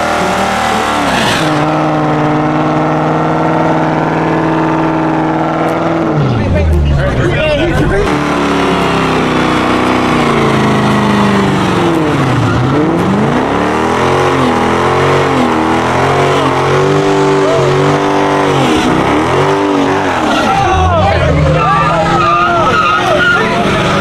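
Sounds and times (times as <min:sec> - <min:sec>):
car engine revving: 0:00.0 - 0:24.0
tires squealing: 0:00.0 - 0:24.0.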